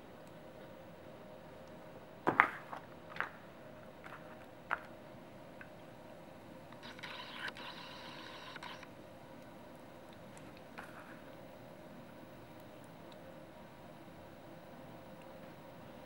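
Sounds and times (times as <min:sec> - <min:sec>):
humidifier humming: 0:00.0 - 0:16.0.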